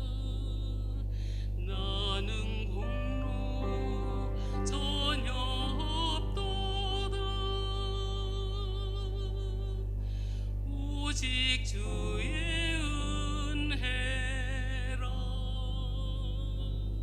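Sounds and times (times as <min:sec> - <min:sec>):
steady low hum: 0:00.0 - 0:17.0
woman singing a hymn: 0:00.0 - 0:17.0.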